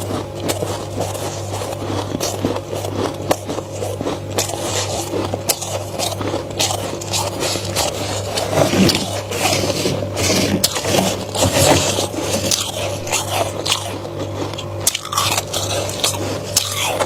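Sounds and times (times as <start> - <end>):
frost being bitten and crunched: 0.0 - 17.0
low steady hum: 0.0 - 17.0.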